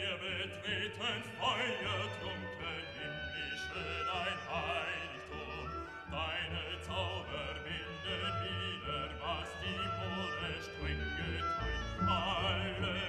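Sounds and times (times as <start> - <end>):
low musical accompaniment: 0.0 - 13.0
operatic singing voice: 0.0 - 13.0.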